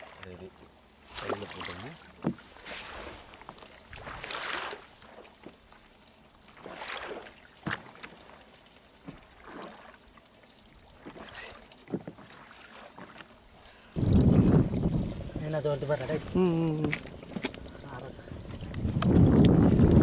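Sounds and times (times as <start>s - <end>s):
water lapping against a boat: 0.0s - 20.0s.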